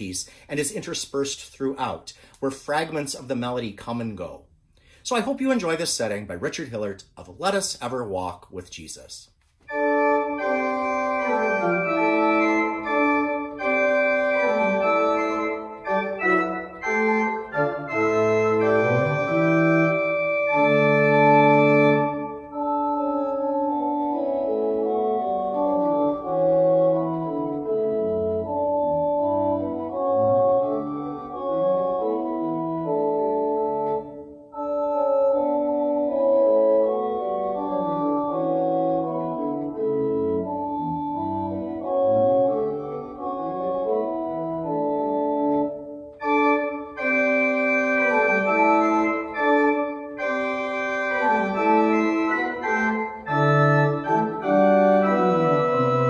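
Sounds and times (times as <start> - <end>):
organ playing a hymn tune: 9.6 - 56.0.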